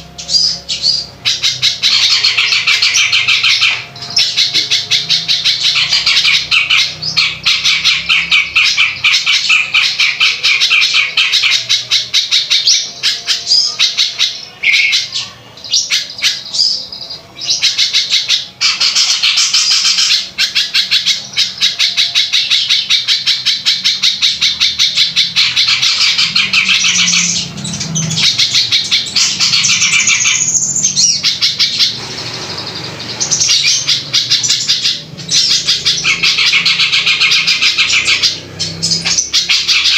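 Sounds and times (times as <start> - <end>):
songbird rapid harsh song: 0.0 - 39.9.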